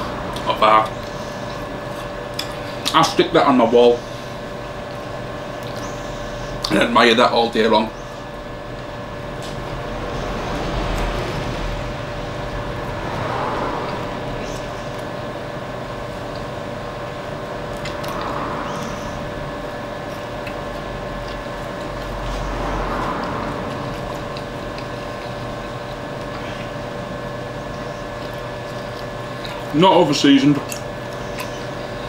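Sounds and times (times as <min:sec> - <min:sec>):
ventilation hum: 0:00.0 - 0:32.0.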